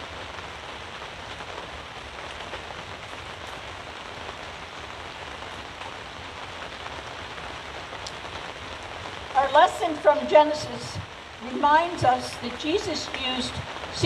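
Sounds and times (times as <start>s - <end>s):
rain on fabric canopy: 0.0s - 14.0s.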